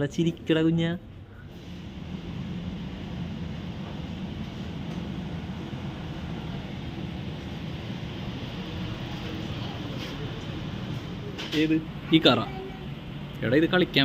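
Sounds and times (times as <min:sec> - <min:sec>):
shop background rumble: 0:00.0 - 0:14.0.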